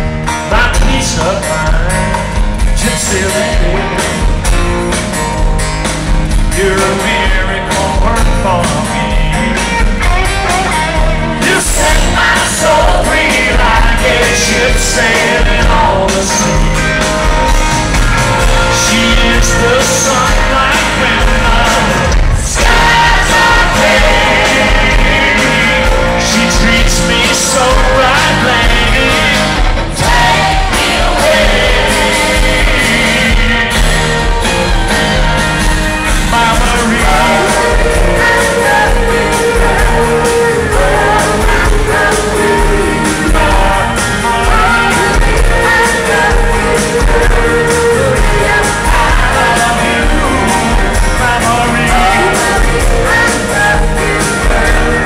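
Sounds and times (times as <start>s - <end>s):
male lead vocal: 0.0s - 5.0s, 6.3s - 55.0s
live country-rock band: 0.0s - 55.0s.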